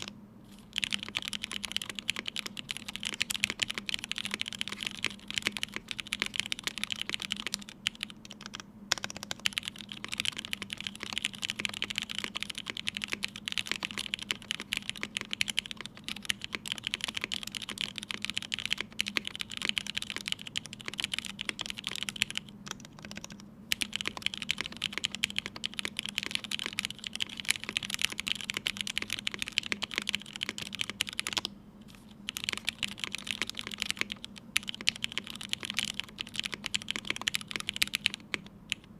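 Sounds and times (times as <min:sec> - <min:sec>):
mechanical keyboard typing: 0:00.7 - 0:31.5, 0:32.3 - 0:38.9.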